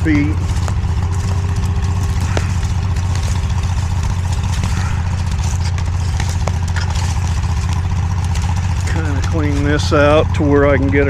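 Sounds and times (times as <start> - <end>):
mini skid steer engine humming: 0.0 - 11.0.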